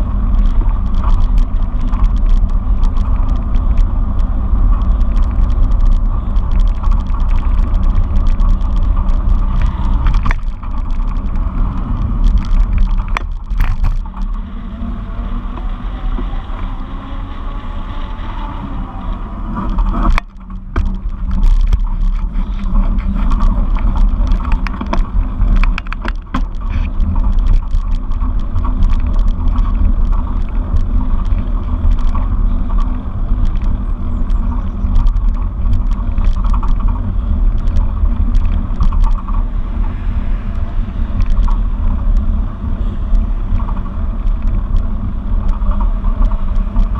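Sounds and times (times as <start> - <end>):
sharp rattles and knocks: 0.0 - 16.8, 19.5 - 46.9
bike riding rumble: 0.0 - 46.9
wind buffeting microphone: 0.0 - 46.9.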